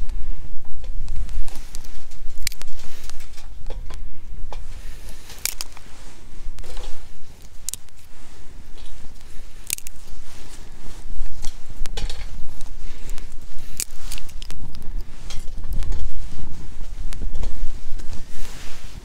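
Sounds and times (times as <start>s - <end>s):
dry twigs snapping: 0.8s - 18.5s.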